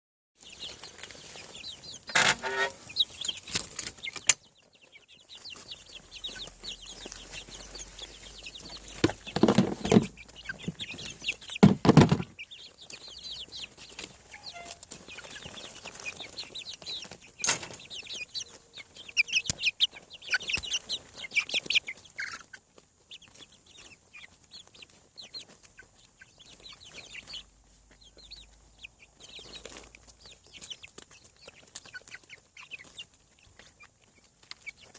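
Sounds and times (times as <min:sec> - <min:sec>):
chickens clucking calls: 0:00.4 - 0:34.9
chicks peeping: 0:00.4 - 0:34.9.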